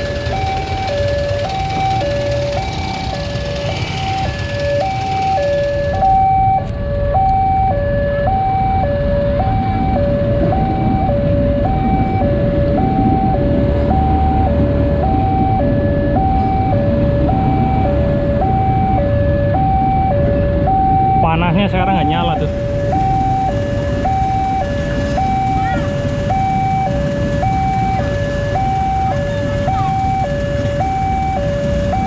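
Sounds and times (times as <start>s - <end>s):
low traffic rumble: 0.0s - 32.0s
two-tone crossing alarm: 0.0s - 32.0s.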